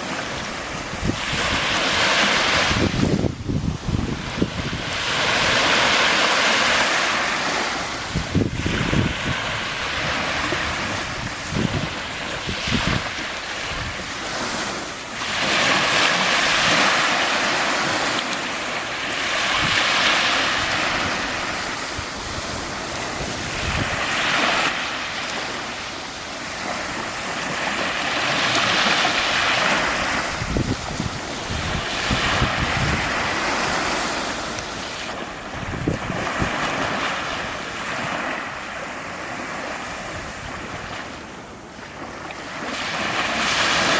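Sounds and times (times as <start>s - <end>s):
wind buffeting microphone: 0.0s - 18.3s, 19.0s - 38.3s
waves washing onto shore: 0.0s - 43.9s.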